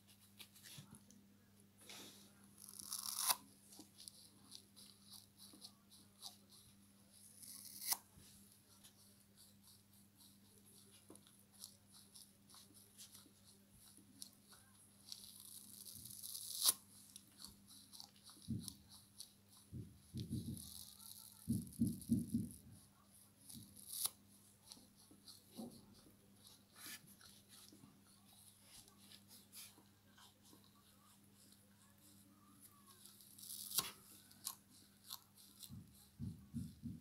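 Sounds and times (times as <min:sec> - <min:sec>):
foam sponge being chewed: 0:01.9 - 0:37.0.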